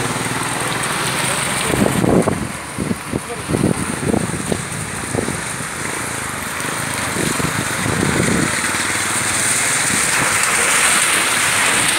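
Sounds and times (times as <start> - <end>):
bus engine: 0.0 - 11.9
small motorcycle engine: 0.0 - 11.9
tyres hissing on wet road: 0.0 - 11.9.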